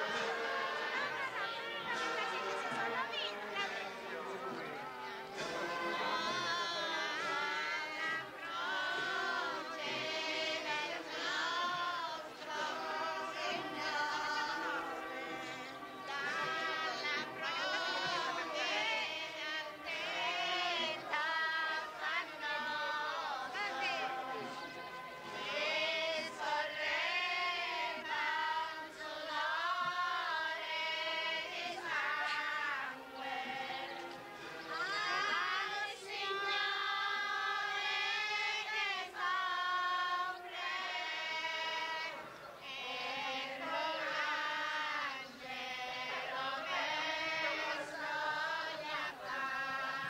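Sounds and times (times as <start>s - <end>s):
women singing a religious chant: 0.0s - 50.0s.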